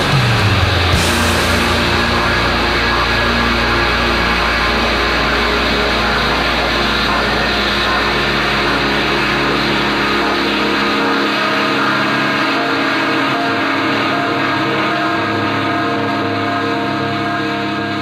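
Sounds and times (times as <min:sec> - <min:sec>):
deep bass drone: 0:00.0 - 0:18.0
post-rock guitar music: 0:00.0 - 0:18.0.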